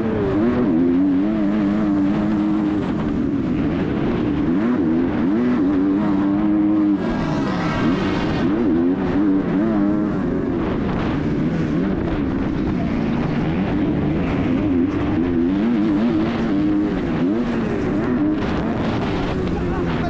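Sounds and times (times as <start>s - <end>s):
motocross bike engine revving hard: 0.0s - 20.0s.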